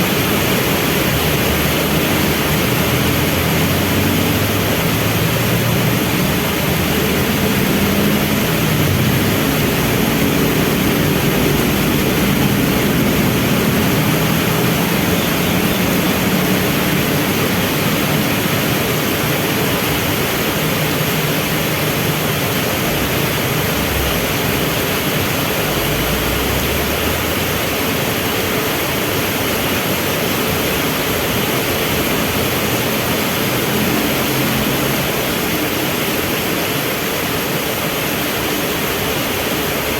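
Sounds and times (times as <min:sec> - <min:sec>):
heavy rain: 0:00.0 - 0:39.9
vehicle engines idling: 0:00.0 - 0:39.9.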